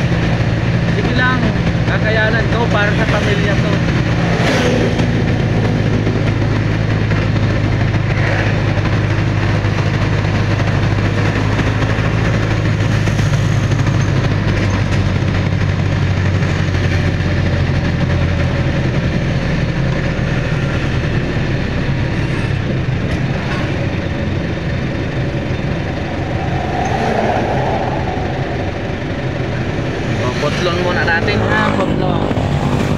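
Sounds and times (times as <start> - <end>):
car engine running steadily: 0.0 - 32.9
road noise: 0.0 - 32.9.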